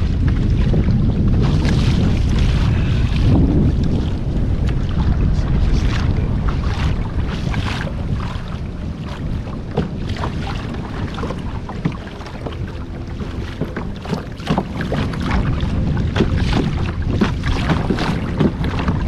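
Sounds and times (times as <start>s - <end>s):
small waves slapping hull: 0.0s - 19.0s
wind buffeting microphone: 0.0s - 19.0s.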